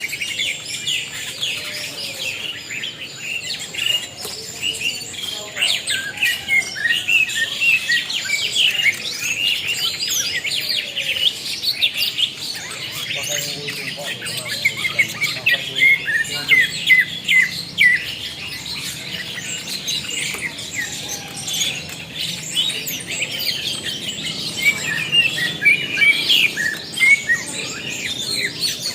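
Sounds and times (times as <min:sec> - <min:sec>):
birds chirping: 0:00.0 - 0:28.9.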